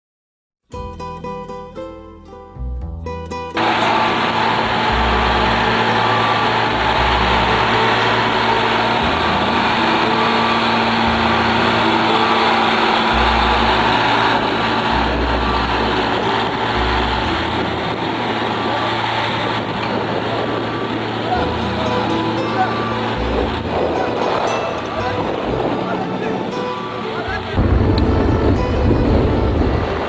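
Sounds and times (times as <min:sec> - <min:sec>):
boat diesel engines droning: 0:03.6 - 0:30.0.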